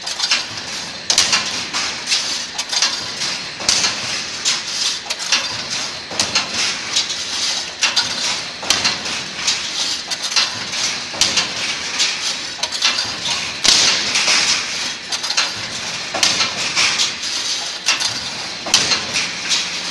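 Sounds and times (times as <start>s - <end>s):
spot welds hissing and crackling: 0.0s - 19.9s
welding machine metallic clanks: 0.0s - 19.9s.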